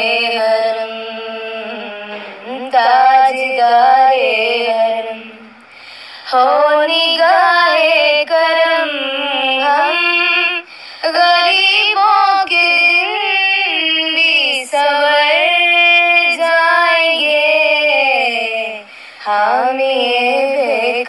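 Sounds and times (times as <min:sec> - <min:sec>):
woman singing: 0:00.0 - 0:05.6, 0:06.2 - 0:21.0.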